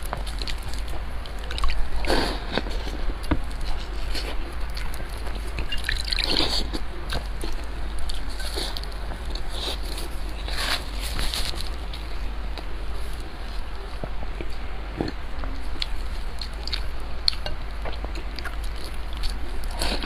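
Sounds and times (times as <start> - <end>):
wet chewing and smacking: 0.0 - 12.7, 14.0 - 20.0.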